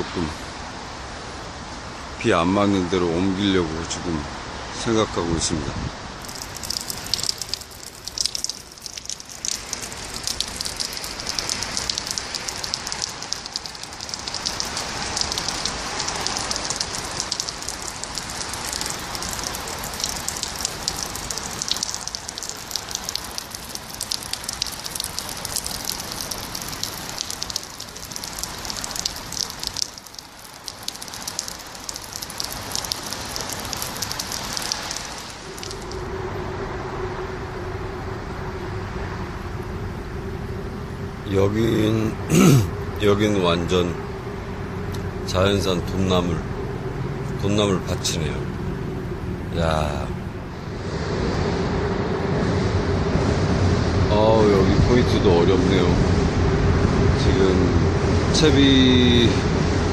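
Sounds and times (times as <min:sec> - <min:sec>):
steady rain falling: 0:00.0 - 0:59.9
low hum: 0:06.2 - 0:59.9.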